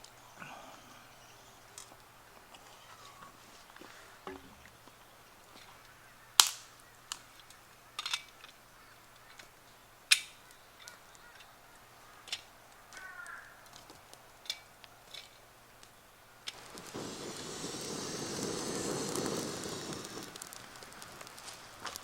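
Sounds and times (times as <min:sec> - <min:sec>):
campfire wood cracking and popping: 0:00.0 - 0:22.0.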